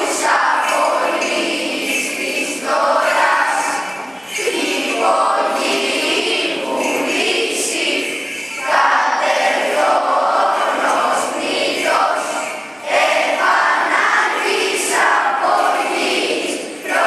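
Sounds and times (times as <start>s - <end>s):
children's choir singing a hymn: 0.0s - 17.0s.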